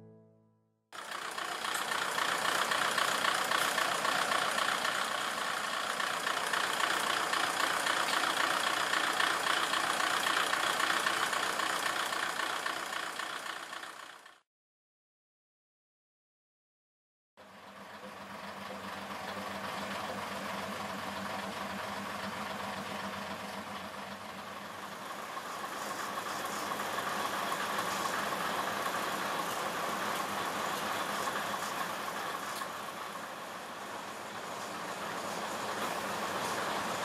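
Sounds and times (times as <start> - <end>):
diesel railcar engines idling: 1.0 - 14.4, 17.4 - 37.0.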